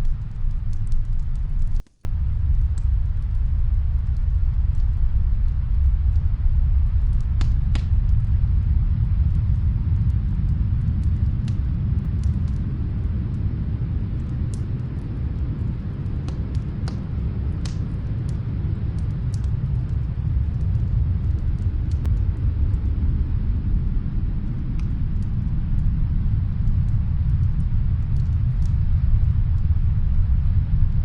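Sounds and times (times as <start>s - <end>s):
faint wood fire crackles: 0.0s - 31.0s
snowstorm wind rumble: 0.0s - 31.0s.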